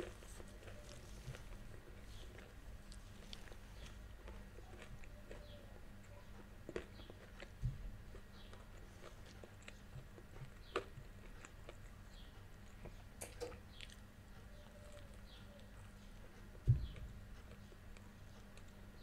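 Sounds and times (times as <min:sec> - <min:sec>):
chewing with mouth clicks: 0:00.0 - 0:19.0
faint background hum: 0:00.0 - 0:19.0.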